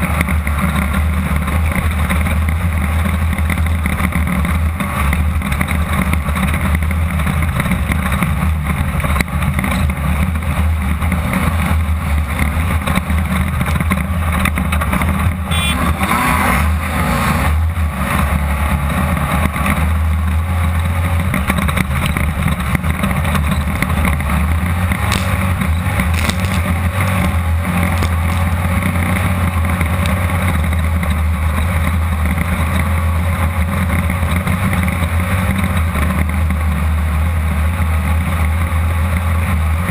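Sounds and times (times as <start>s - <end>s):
engine running at high revs: 0.0s - 39.9s.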